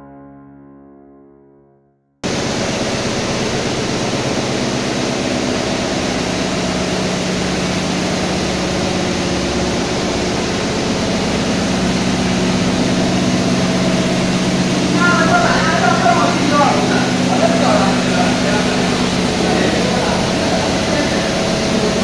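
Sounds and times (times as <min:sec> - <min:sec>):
low hum: 0:02.2 - 0:22.0
machine rushing noise: 0:02.2 - 0:22.0.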